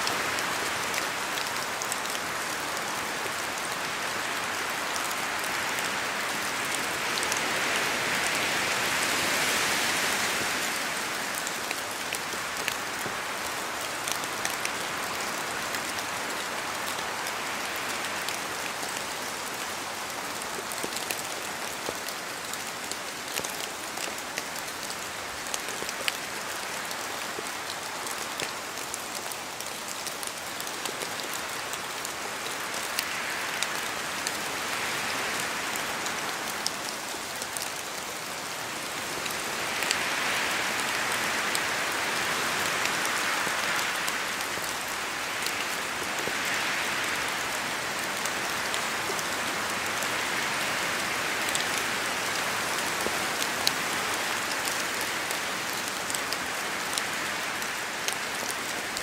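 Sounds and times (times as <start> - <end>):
rain falling in forest: 0.0 - 59.0.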